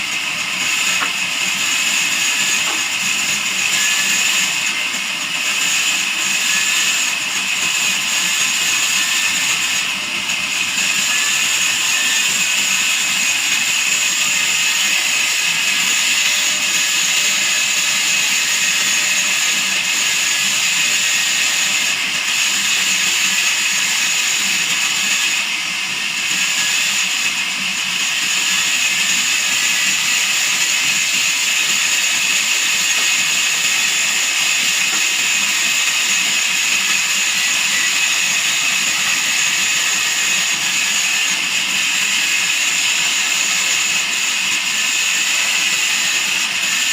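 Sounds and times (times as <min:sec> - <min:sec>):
band saw blade cutting log: 0:00.0 - 0:46.9.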